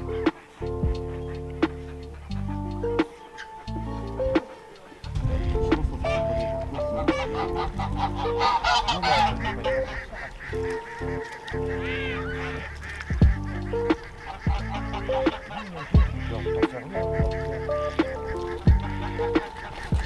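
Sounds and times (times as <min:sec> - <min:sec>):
background music with held notes: 0:00.0 - 0:20.0
geese honking: 0:00.0 - 0:20.0.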